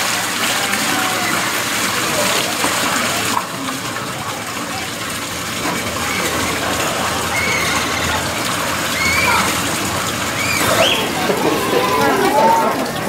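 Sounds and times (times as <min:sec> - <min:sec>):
water pouring into pool: 0:00.0 - 0:13.0.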